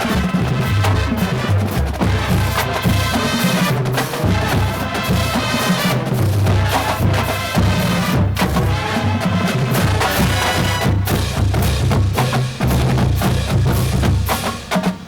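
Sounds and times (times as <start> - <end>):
bass drums beating: 0.0 - 15.0
marching band playing: 0.0 - 15.0.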